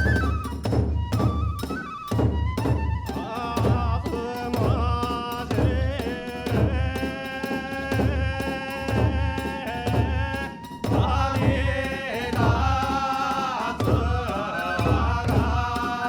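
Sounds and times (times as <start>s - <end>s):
large drum beating: 0.0s - 16.0s.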